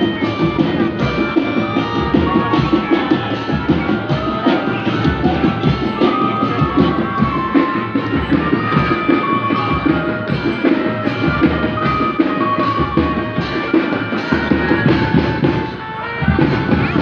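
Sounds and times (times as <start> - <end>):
music with drums and melody: 0.0 - 17.0.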